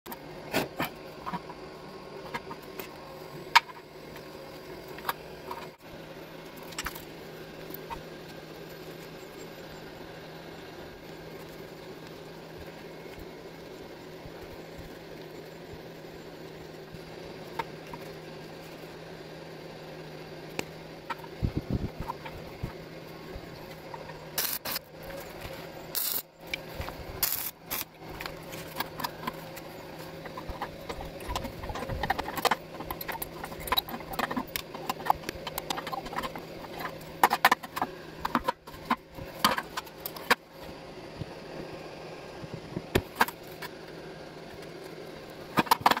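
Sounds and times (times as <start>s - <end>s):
steady low hum: 0.1s - 46.0s.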